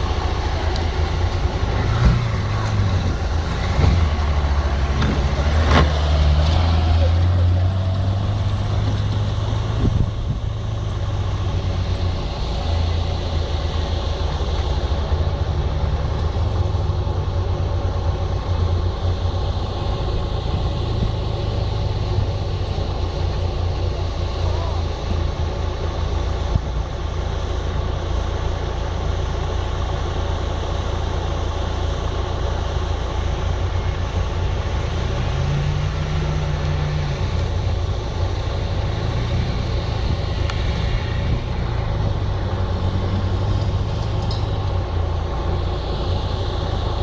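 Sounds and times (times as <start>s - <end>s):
engine running with low rumble: 0.0s - 47.0s.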